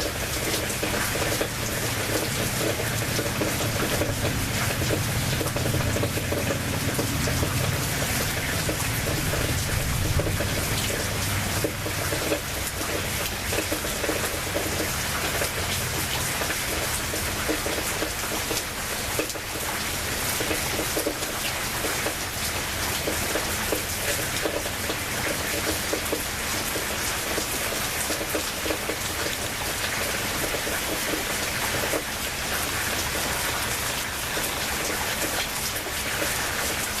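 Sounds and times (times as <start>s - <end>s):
heavy rain patter: 0.0s - 37.0s.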